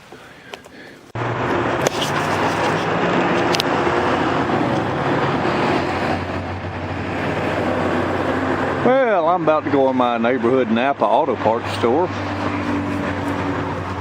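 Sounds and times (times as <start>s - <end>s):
road noise: 0.0s - 14.0s
engine hum: 0.5s - 14.0s.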